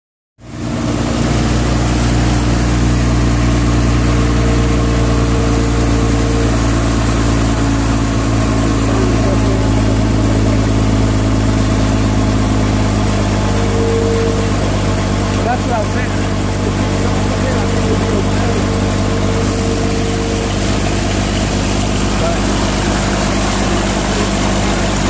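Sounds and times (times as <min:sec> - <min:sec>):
high steady whine: 0:00.4 - 0:25.0
truck engine running: 0:00.4 - 0:25.0
water churning: 0:00.4 - 0:25.0.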